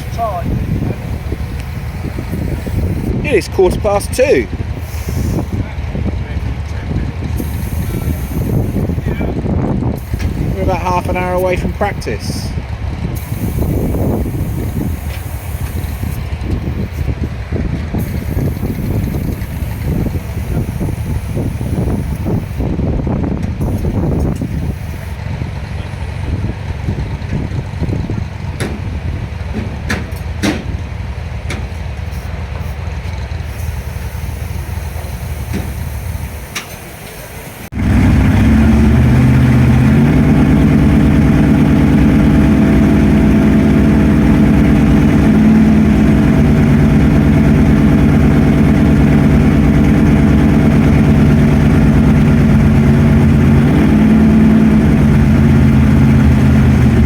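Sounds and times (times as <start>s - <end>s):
rumbling wind noise: 0.0s - 32.5s, 37.7s - 57.0s
car engine idling: 0.0s - 57.0s.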